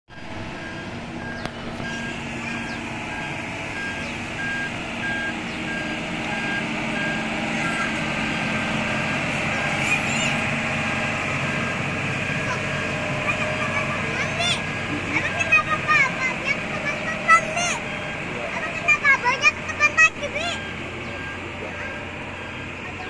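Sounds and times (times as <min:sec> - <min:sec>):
diesel engine running: 0:00.1 - 0:23.0
reversing alarm beeping: 0:00.1 - 0:23.0.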